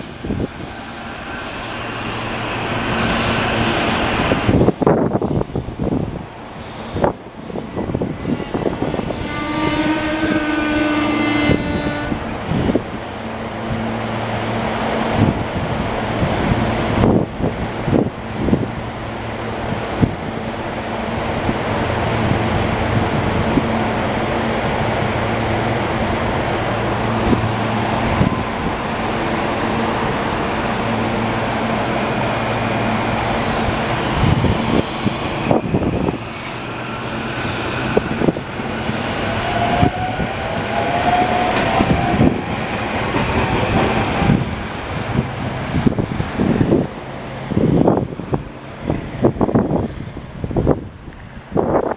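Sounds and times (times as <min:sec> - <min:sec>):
train wheels rolling on rails: 0:00.0 - 0:51.9.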